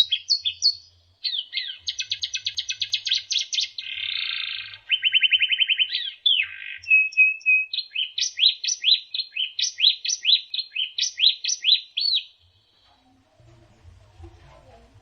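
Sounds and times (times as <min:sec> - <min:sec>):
songbird trilling and whistling: 0:00.0 - 0:12.8.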